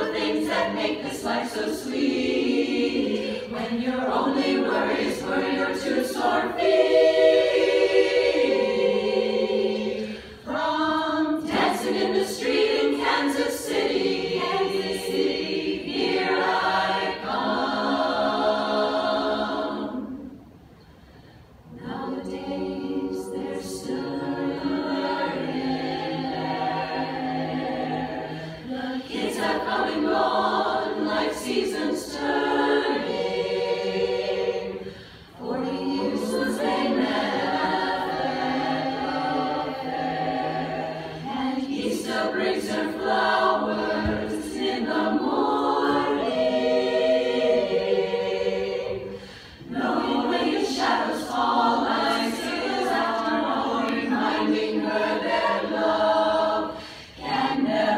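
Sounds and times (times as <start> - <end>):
women's chorus singing in harmony: 0.0 - 57.9.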